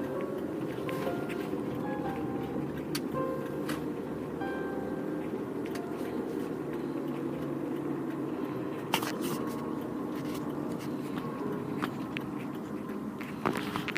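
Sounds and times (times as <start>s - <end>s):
car rumbling on the move: 0.0s - 13.9s.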